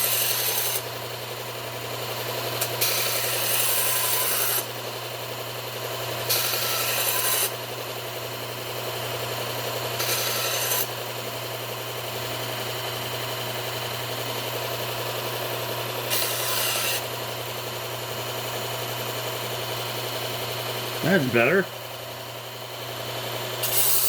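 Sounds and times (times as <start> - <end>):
belt sharpener running: 0.0 - 5.0, 5.7 - 21.0, 22.9 - 24.0.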